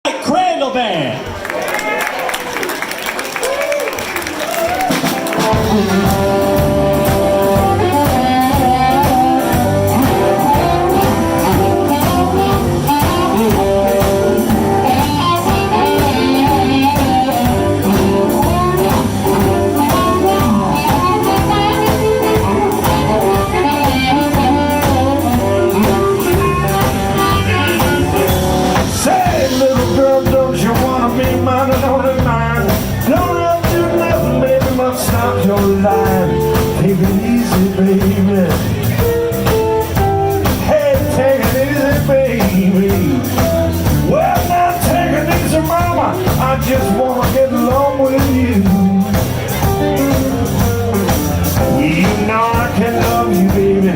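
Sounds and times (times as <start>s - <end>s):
steady drum beat: 4.3s - 53.9s
bass guitar: 4.4s - 53.9s
lead guitar: 4.6s - 53.9s.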